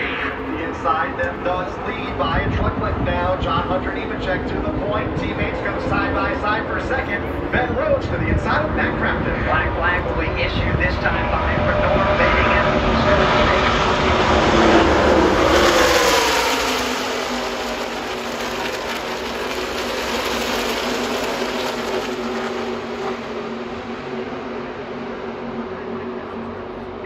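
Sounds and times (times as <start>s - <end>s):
race trucks passing at full speed: 0.0s - 27.0s.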